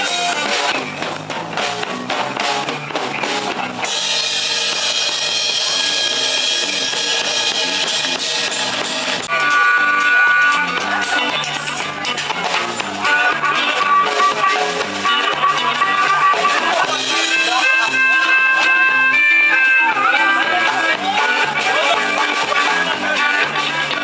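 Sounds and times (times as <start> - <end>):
drum kit: 0.0 - 24.0
guitar playing: 0.0 - 24.0.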